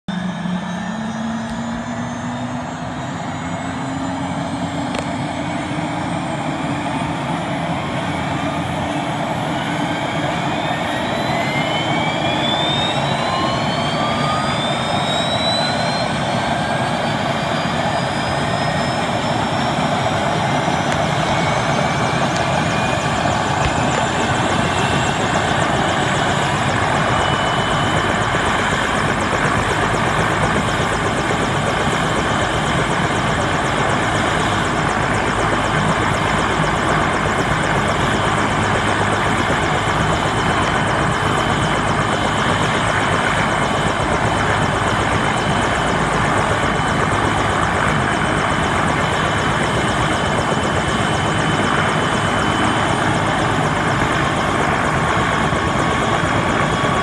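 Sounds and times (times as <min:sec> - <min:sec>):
helicopter turbine whine rising: 0:00.1 - 0:57.0.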